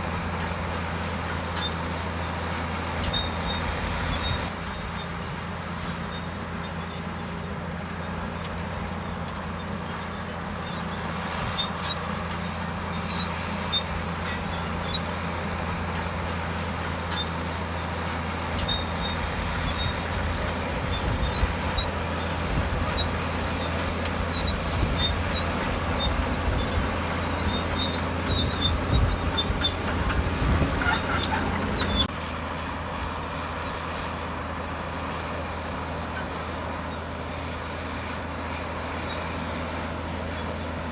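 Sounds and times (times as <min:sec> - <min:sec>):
steel tracks clanking and squeaking: 0:00.0 - 0:32.2, 0:33.6 - 0:40.9
bulldozer diesel engine running: 0:00.0 - 0:40.9.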